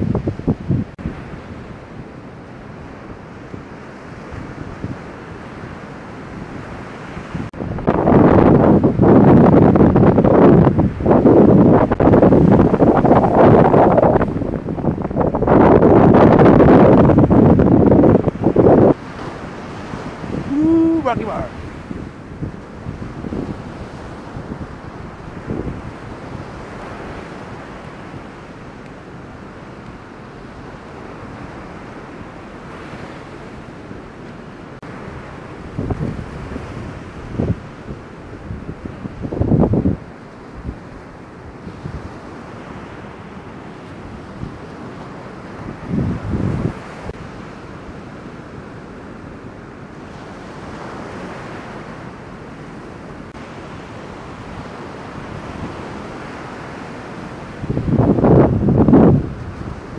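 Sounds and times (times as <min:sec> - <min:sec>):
wind buffeting microphone: 0:00.0 - 0:34.0, 0:34.8 - 0:47.4, 0:53.2 - 0:59.9
surf roaring: 0:00.0 - 0:59.9.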